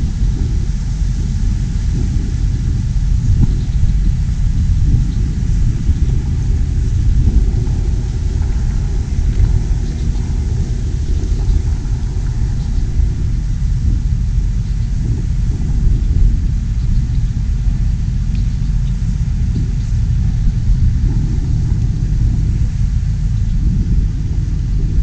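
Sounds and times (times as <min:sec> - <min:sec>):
distant tractor engine rumble: 0:00.0 - 0:25.0
wind on microphone: 0:00.0 - 0:25.0.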